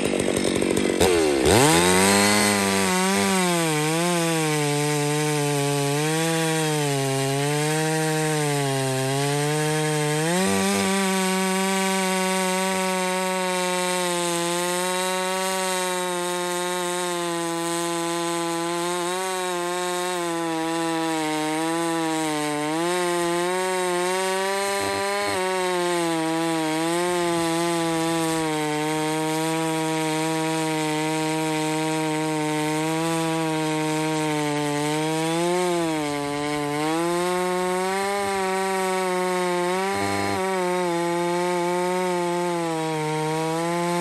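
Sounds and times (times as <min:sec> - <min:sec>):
chainsaw engine at high revs: 0:00.0 - 0:44.0.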